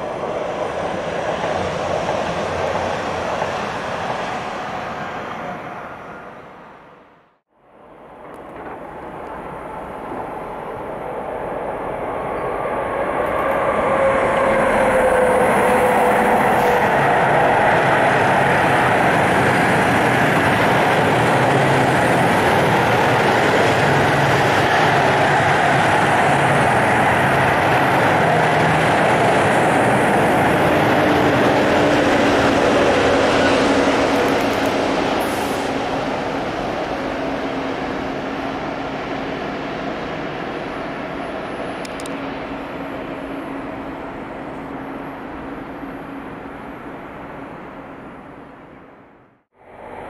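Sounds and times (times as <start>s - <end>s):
freight train wheels rumbling: 0.0s - 6.5s, 8.0s - 48.8s.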